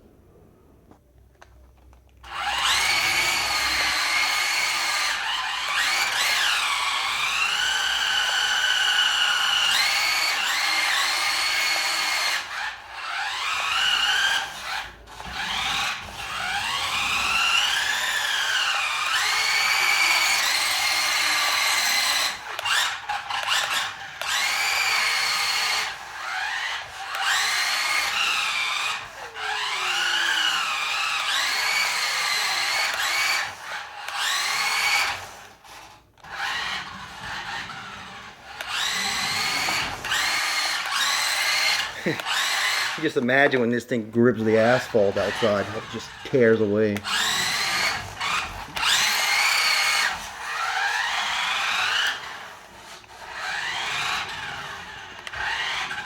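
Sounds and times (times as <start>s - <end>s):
toy car electric motors whining: 1.4s - 56.0s.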